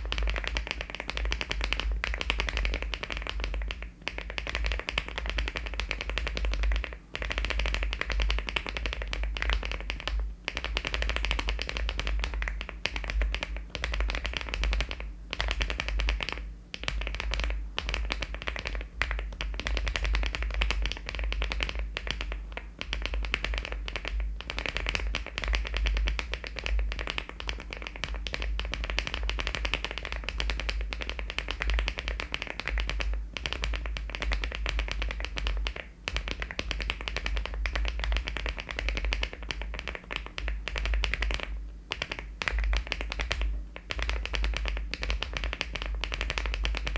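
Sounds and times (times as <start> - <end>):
fast typing on mechanical keyboard: 0.0 - 46.9.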